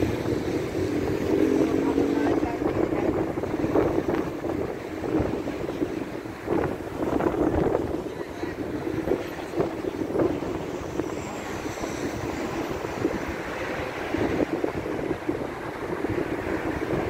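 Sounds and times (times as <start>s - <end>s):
cars driving past: 0.0s - 17.0s
wind rumbling on microphone: 0.0s - 17.0s.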